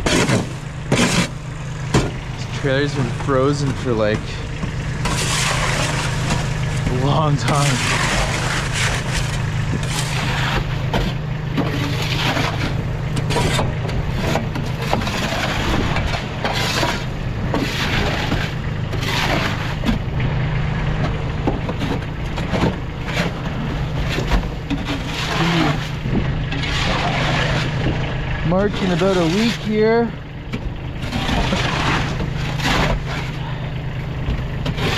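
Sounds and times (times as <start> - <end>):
shovel scraping and crunching: 0.0 - 20.2, 20.9 - 34.9
vehicle engine idling: 0.0 - 34.9.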